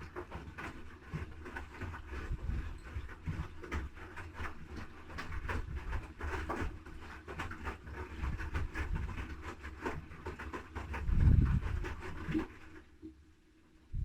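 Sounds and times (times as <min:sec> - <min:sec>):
wet laundry sloshing and thudding: 0:00.0 - 0:12.9
washing machine motor hum: 0:00.0 - 0:14.0.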